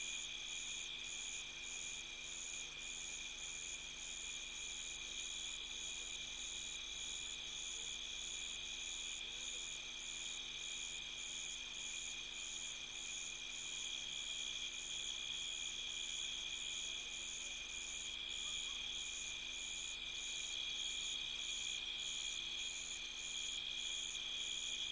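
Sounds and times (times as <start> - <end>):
pulsing cricket chirp: 0.0 - 24.9.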